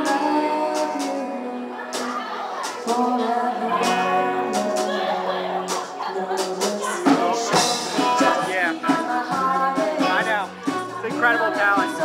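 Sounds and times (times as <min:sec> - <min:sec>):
drum kit: 0:00.0 - 0:12.0
guitar: 0:00.0 - 0:12.0
woman singing: 0:00.0 - 0:12.0.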